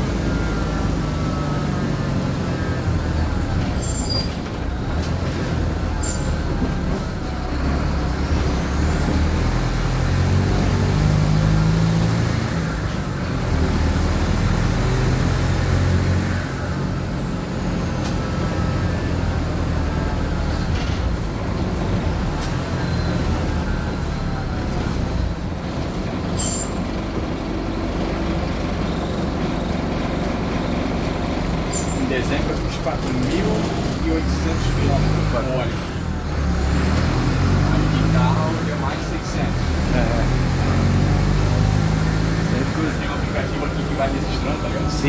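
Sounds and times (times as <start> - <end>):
bus diesel engine: 0.0 - 45.0
road noise: 0.0 - 45.0.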